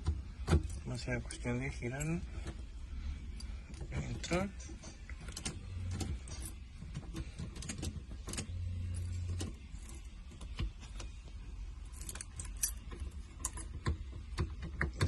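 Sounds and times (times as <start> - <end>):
low hum: 0.3 - 13.7.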